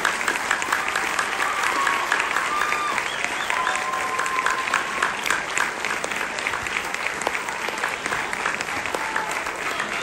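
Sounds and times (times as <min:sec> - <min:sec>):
crowd clapping: 0:00.0 - 0:10.0
high held cheer: 0:00.0 - 0:10.0.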